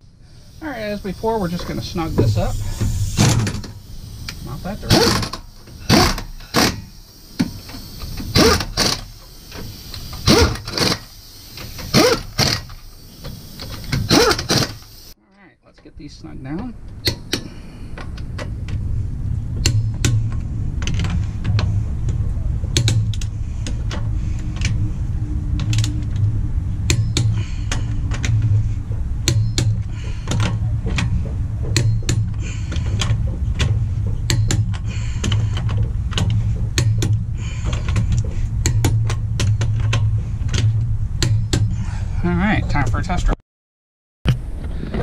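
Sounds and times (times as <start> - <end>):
steady low hum: 0.0 - 43.4.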